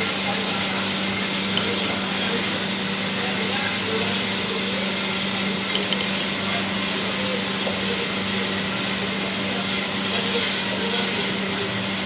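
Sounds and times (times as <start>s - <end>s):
machine whirring: 0.0s - 12.0s.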